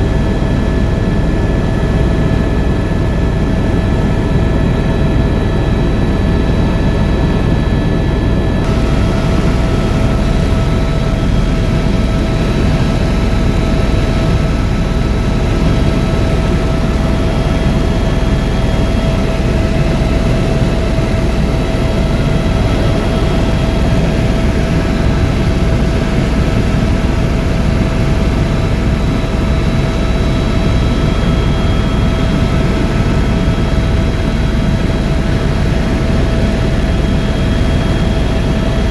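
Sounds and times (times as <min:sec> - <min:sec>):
helicopter rotor and engine rumble: 0:00.0 - 0:38.9
high turbine whine: 0:00.0 - 0:38.9.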